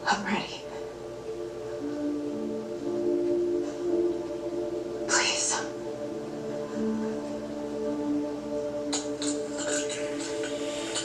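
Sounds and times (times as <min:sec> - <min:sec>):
music of long held low notes: 0:00.0 - 0:11.0.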